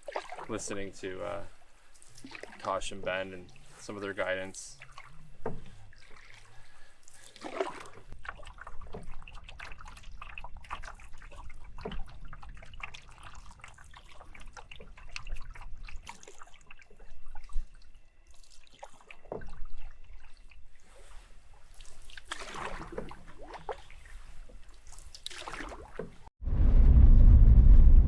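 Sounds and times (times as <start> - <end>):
canoe paddle splashing water: 0.0 - 26.3
water trickling and dripping: 0.0 - 26.3.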